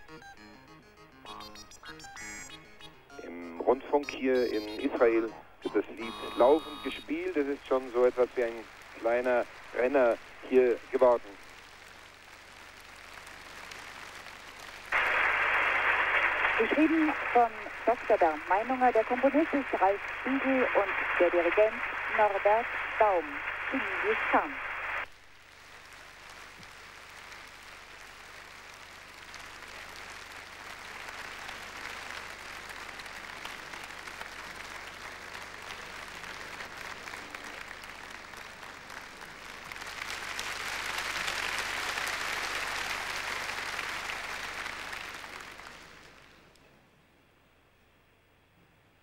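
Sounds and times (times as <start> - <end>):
audience applauding: 1.3 - 46.6.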